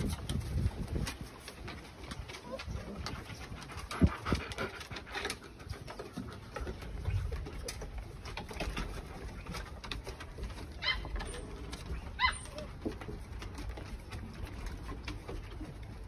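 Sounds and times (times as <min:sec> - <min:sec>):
puppy grunts and whines: 0:02.3 - 0:15.6.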